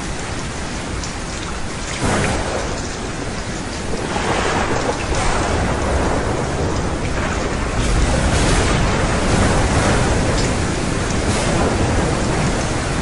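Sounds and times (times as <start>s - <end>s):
heavy rain: 0.0s - 13.0s
thunder rumbling: 1.8s - 13.0s.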